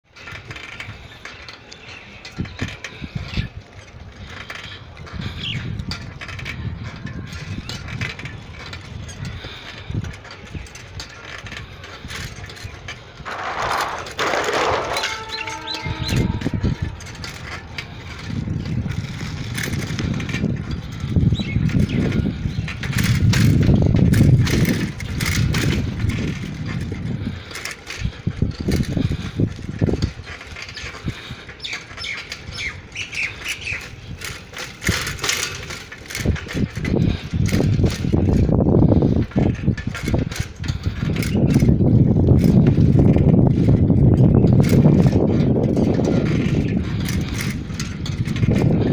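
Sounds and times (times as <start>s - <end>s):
low road rumble: 0.0s - 48.9s.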